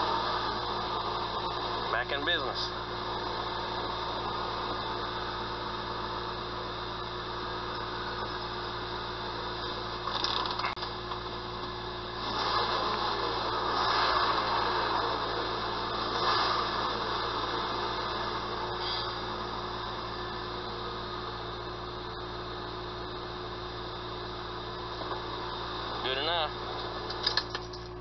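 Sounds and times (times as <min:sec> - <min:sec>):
car engine running: 0:00.0 - 0:28.0.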